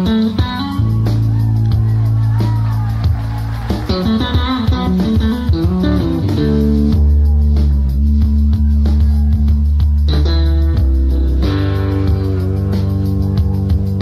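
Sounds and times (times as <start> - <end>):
electric bass notes: 0.0 - 14.0
jazz fusion band playing live: 0.0 - 14.0.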